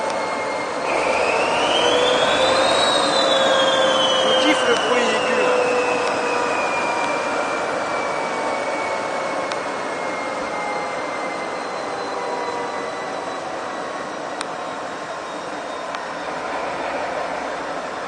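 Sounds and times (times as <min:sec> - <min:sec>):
locomotive diesel engine roaring: 0:00.0 - 0:18.0.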